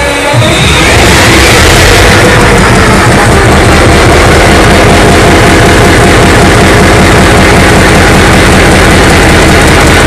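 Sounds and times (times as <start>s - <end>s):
large engine running: 0.4s - 10.0s.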